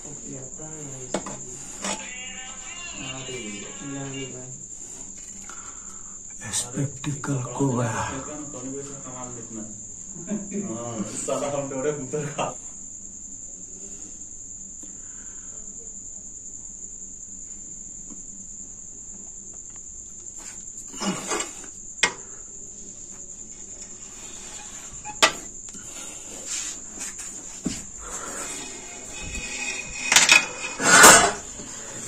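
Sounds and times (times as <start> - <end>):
crickets chirring: 0.0 - 32.0.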